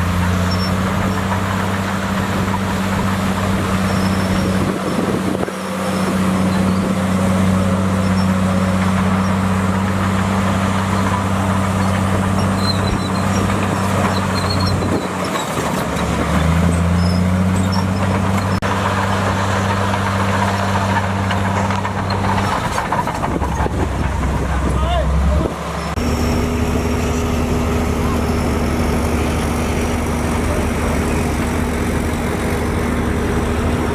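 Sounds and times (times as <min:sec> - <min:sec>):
heavy machinery diesel engine running: 0:00.0 - 0:33.9.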